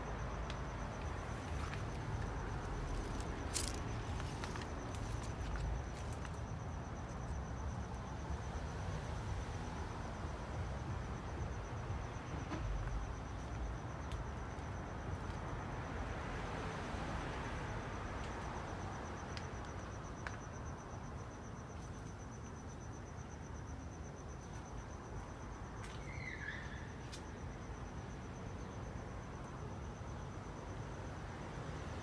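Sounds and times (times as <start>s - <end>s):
cricket trilling: 0.0s - 32.0s.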